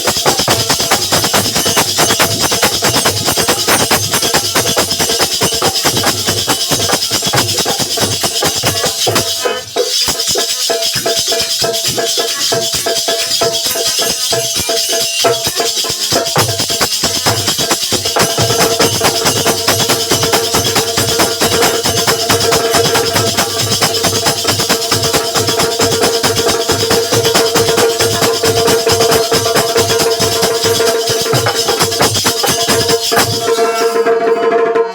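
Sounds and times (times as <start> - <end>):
folk drums playing fast rhythm: 0.0 - 34.9
jingling cymbals: 0.0 - 34.9.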